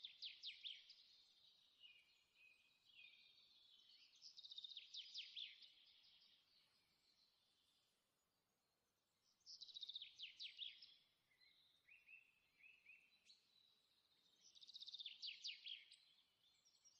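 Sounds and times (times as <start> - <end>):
songbird chirping: 0.0 - 16.9.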